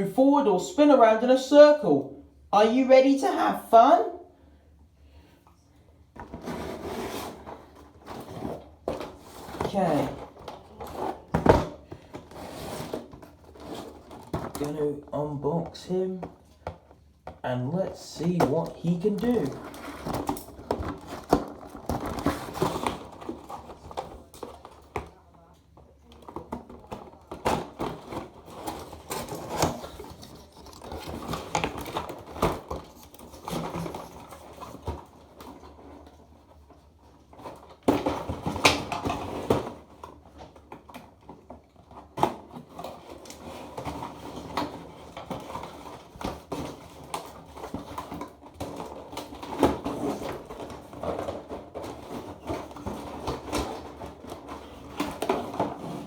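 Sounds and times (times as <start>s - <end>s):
packaging rustling and scraping: 6.1s - 56.0s.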